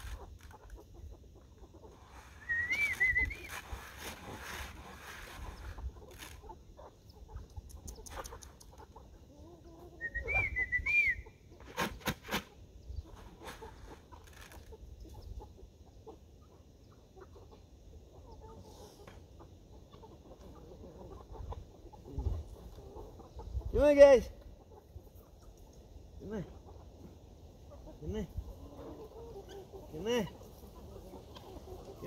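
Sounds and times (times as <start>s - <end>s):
chicken squawks: 0.0s - 25.6s, 26.2s - 32.0s
chickens clucking: 0.0s - 32.0s.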